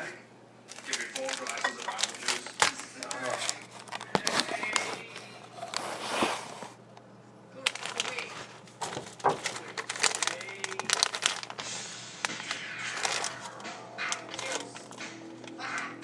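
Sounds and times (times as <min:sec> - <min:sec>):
crinkling and clicks of handling: 0:00.7 - 0:16.0.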